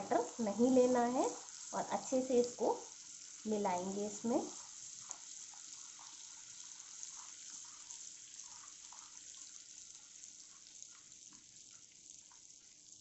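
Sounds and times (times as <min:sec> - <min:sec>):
sugar and butter sizzling in pan: 0:00.0 - 0:13.0.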